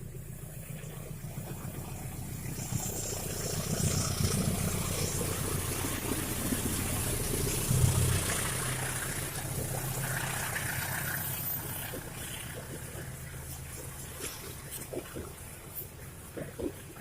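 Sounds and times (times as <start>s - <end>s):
train diesel engine drone: 0.0s - 17.0s.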